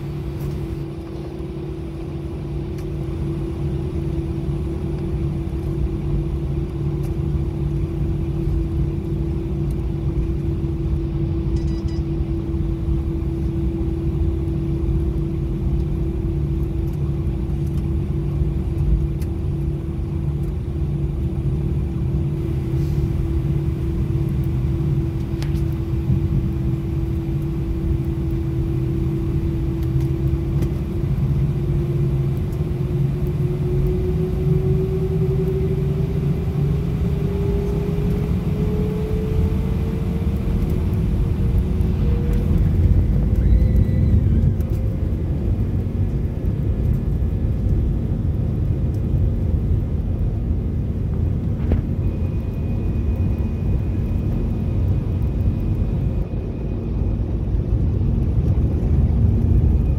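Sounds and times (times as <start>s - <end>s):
jet engine whine rising: 0.0s - 59.9s
low rumble: 0.0s - 59.9s.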